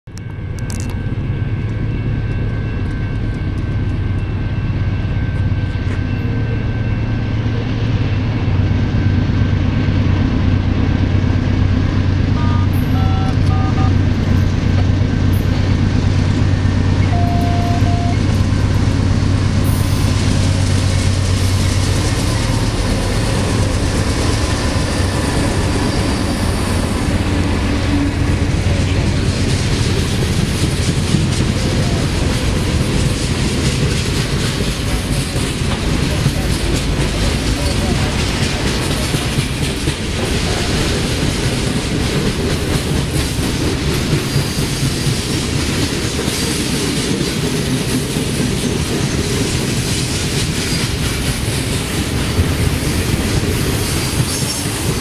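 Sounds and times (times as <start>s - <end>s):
diesel locomotives droning: 0.1s - 55.0s
freight cars rolling on rails: 0.1s - 55.0s.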